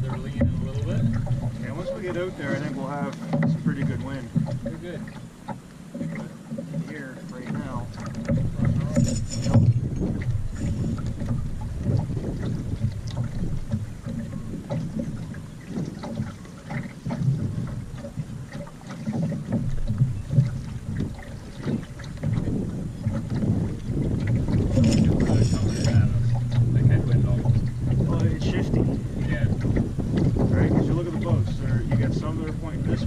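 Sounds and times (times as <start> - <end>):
faint knocks on boat: 0.0 - 33.0
water sounds: 0.0 - 33.0
wind buffeting microphone: 0.0 - 33.0.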